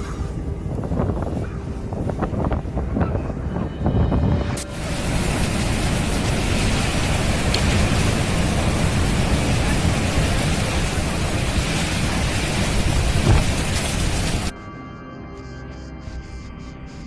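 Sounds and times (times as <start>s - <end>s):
heavy rain and wind: 0.0s - 14.5s
thunderclap: 0.7s - 14.5s.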